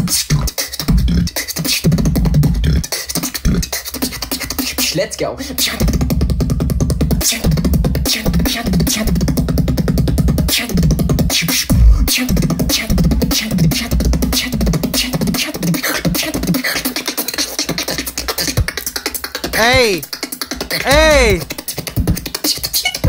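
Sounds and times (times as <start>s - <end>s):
beatbox drum hits and clicks: 0.2s - 4.9s, 5.6s - 23.0s.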